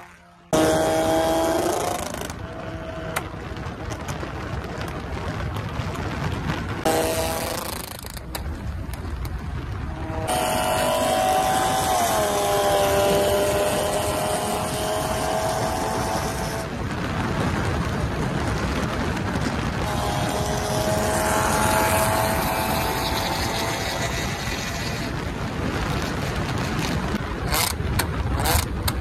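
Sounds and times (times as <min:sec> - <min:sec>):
wind and road noise: 0:00.0 - 0:29.0
sharp crackles: 0:00.1 - 0:29.0.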